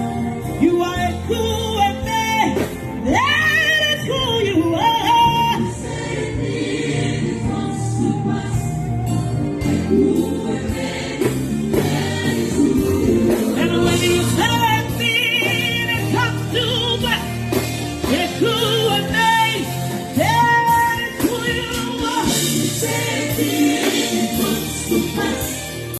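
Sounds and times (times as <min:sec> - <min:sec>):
gospel music with lead vocal: 0:00.0 - 0:25.9.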